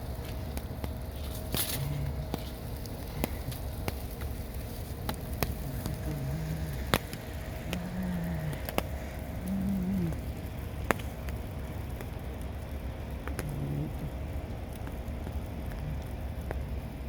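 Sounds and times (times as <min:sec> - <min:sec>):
low rumble of wind: 0:00.0 - 0:17.0
rain and wet snow ticking: 0:00.0 - 0:17.0.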